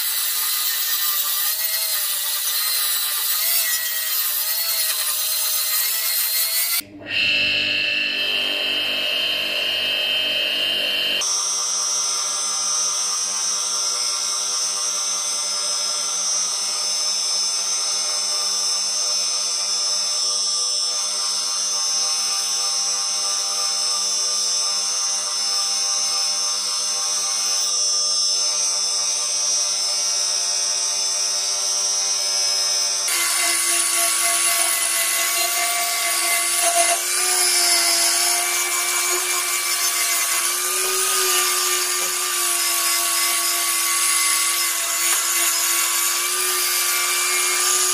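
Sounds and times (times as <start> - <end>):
angle grinder whine: 0.0 - 47.9
bench grinder grinding blade: 0.0 - 47.9.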